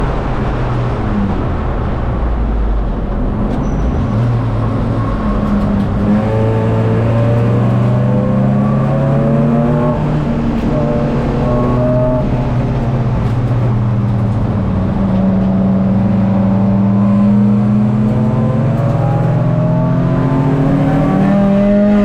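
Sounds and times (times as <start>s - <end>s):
race car engine accelerating: 0.0s - 22.0s
road and wind noise: 0.0s - 22.0s.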